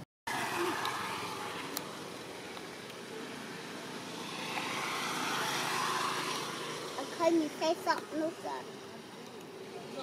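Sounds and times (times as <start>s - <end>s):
road traffic noise: 0.0s - 10.0s
vehicle approaching: 0.3s - 10.0s.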